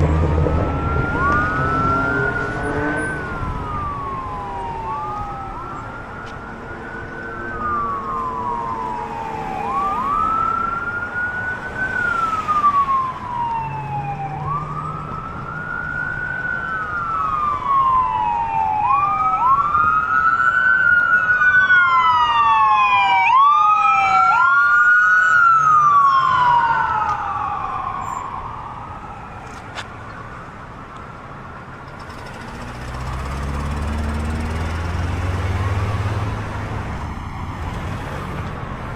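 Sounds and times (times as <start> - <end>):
emergency vehicle siren wailing: 0.0 - 38.9
traffic noise: 0.0 - 38.9.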